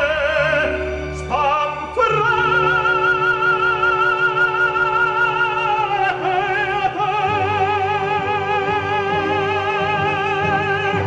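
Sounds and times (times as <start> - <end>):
instrumental accompaniment: 0.0 - 11.0
operatic singing: 0.0 - 11.0.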